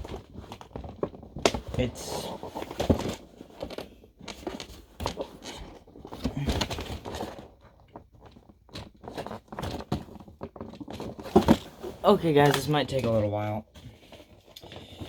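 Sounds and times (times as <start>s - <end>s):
plastic crinkling: 0.0s - 15.0s.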